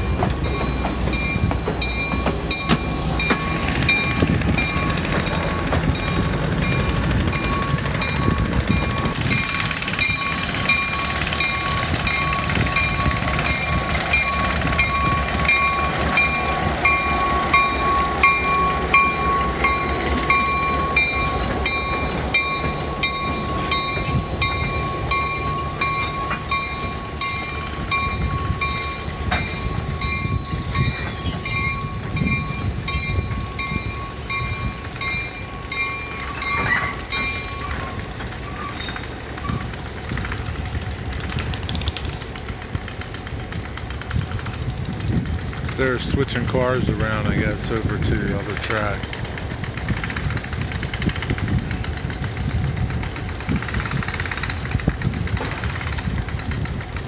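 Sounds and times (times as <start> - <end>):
locomotive bell ringing: 0.0 - 41.4, 42.2 - 54.9
locomotive engine and wheel rumble: 0.0 - 57.0.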